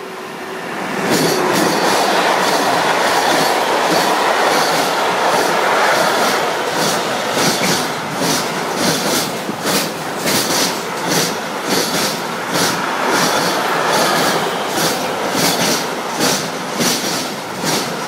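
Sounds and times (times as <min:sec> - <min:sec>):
freight train passing: 0:00.0 - 0:18.0
wheels clicking on rails: 0:01.0 - 0:18.0.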